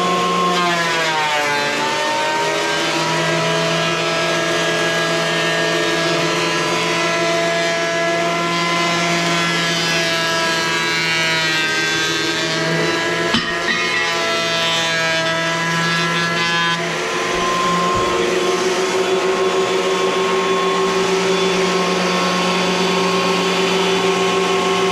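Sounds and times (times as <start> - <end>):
thickness planer motor whine: 0.0 - 24.9.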